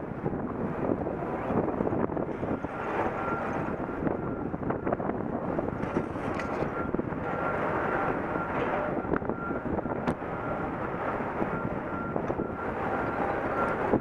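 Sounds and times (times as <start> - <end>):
wind buffeting microphone: 0.0 - 14.0
faint wind whistle: 0.3 - 14.0.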